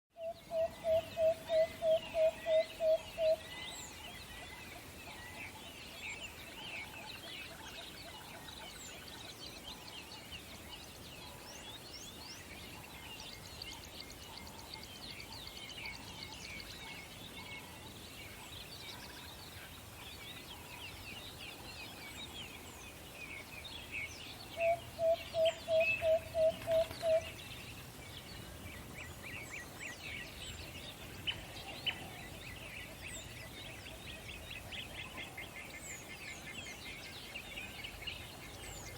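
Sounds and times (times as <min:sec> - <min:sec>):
songbirds twittering: 0:00.1 - 0:38.9.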